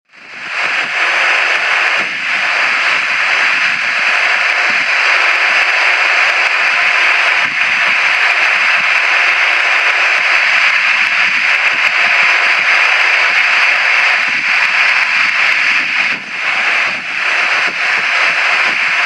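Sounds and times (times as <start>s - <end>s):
jet engines running: 0.1s - 19.0s.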